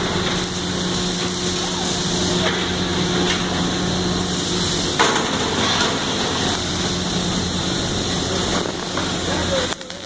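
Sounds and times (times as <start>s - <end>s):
arc welding crackling sizzle: 0.0s - 10.0s.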